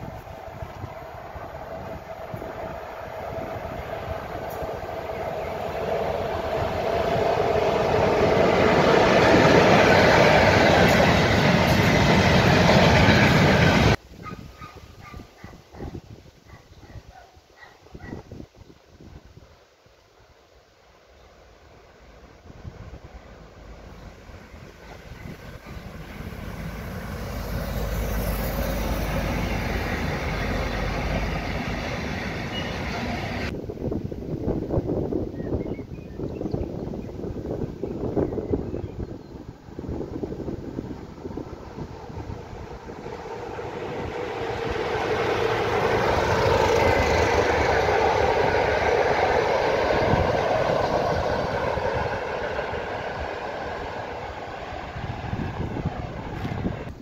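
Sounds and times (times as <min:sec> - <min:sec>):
freight train passing: 0:00.0 - 0:18.1, 0:19.8 - 0:57.0.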